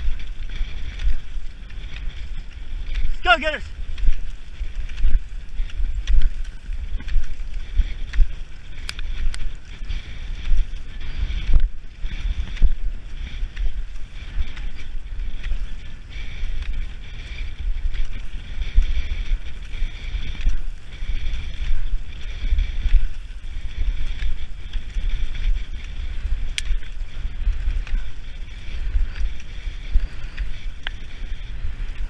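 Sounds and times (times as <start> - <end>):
skis and poles on snow: 0.0 - 32.0
wind buffeting microphone: 0.0 - 32.0.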